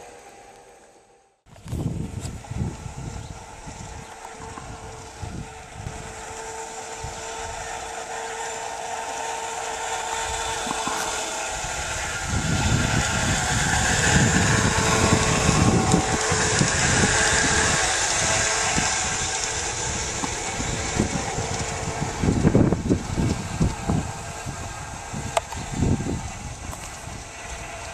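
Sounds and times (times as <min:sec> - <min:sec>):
model train wheels rolling: 0:00.0 - 0:27.9.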